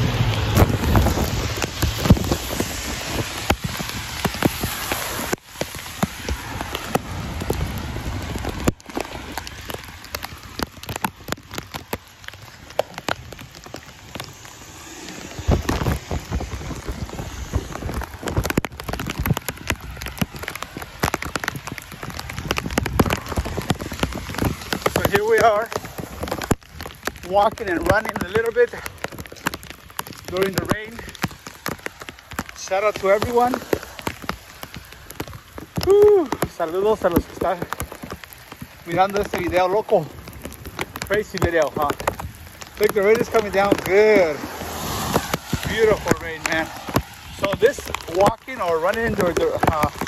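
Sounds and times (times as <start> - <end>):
raindrops ticking on plastic: 0.0 - 50.0
steady rain: 0.0 - 50.0.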